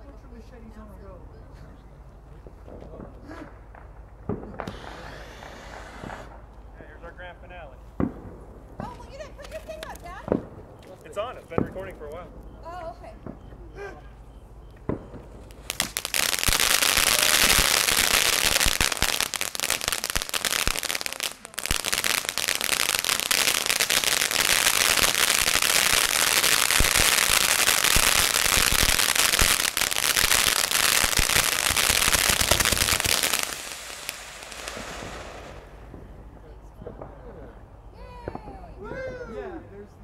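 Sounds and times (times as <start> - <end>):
firework fountain crackling: 2.5 - 13.5, 14.8 - 39.3.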